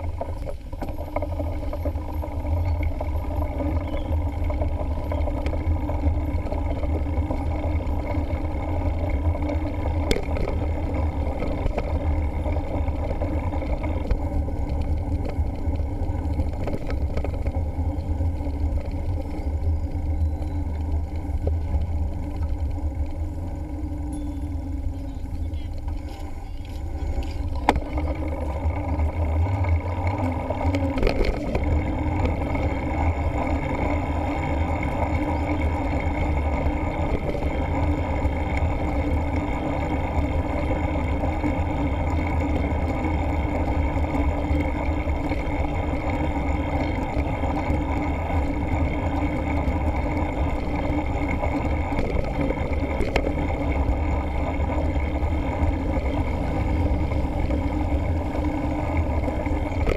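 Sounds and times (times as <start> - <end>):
bike tyre road rumble: 0.0 - 59.9.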